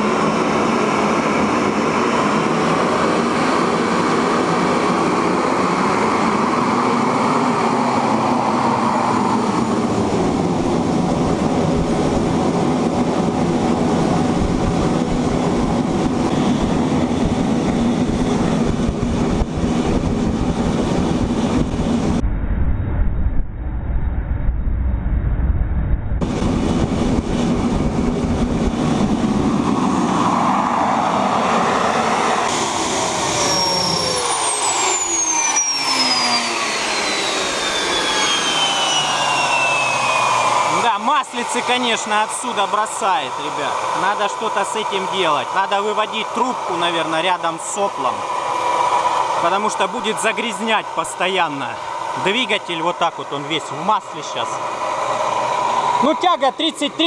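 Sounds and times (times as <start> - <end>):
jet engine roar: 0.0 - 57.0
jet engine spooling down whine: 0.0 - 57.0.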